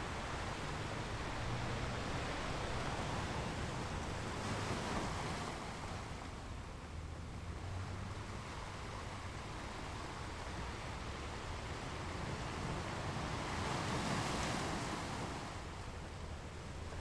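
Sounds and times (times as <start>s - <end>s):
ocean waves washing onto shore: 0.0s - 6.7s, 7.6s - 17.0s.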